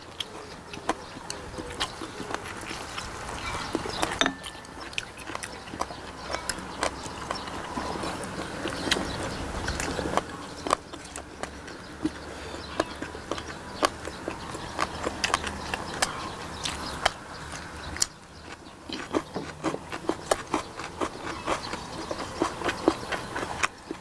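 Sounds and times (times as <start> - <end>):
people chewing: 0.0 - 24.0.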